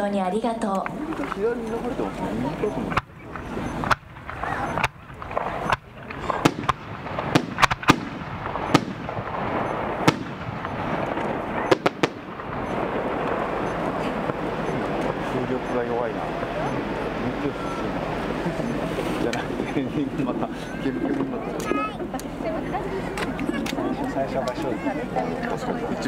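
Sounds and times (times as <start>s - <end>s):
fireworks bursting: 0.0s - 26.0s
steady wash of noise: 0.9s - 24.4s.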